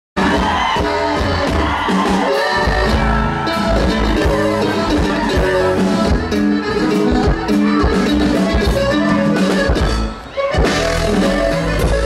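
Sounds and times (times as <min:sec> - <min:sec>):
bass: 0:00.2 - 0:12.0
guitar strumming: 0:00.2 - 0:12.0
live band playing: 0:00.2 - 0:12.0.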